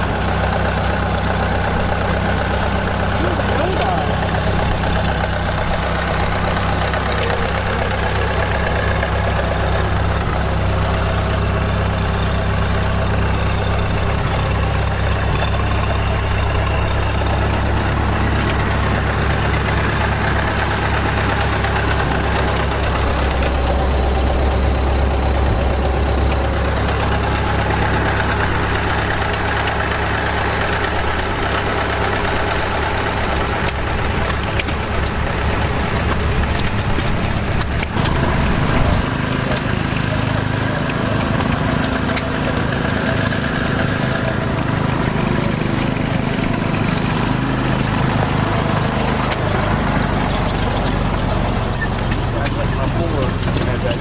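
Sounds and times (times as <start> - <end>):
antique engine running: 0.0 - 54.0.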